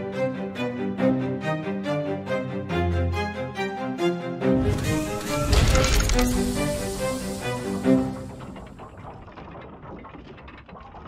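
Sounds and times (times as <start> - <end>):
background music: 0.0 - 9.1.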